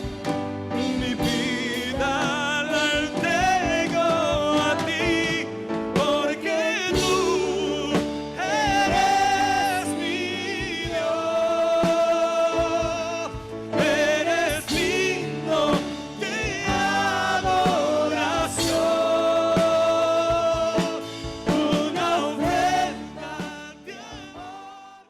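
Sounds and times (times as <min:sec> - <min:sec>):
person singing with vibrato: 0:00.0 - 0:25.0
sustained musical accompaniment: 0:00.0 - 0:25.0.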